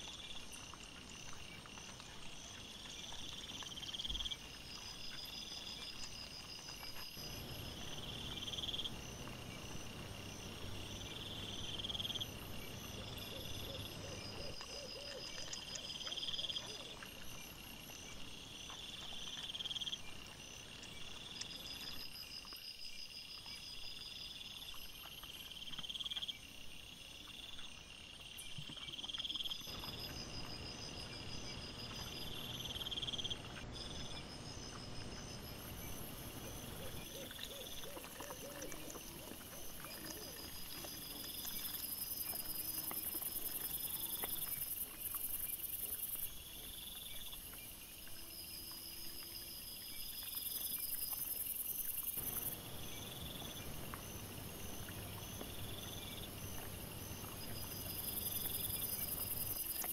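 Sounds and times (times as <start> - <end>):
faint insect chirps: 0.0 - 59.9.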